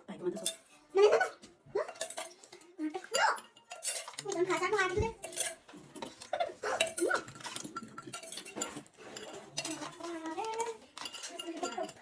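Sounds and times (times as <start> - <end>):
cutlery clinking on plates: 0.3 - 12.0.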